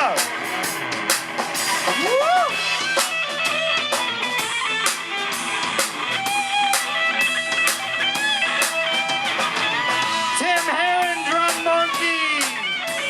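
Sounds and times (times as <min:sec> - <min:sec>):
drum kit beat: 0:00.0 - 0:13.0
electric guitar bending notes: 0:00.0 - 0:13.0
live rock band: 0:00.0 - 0:13.0.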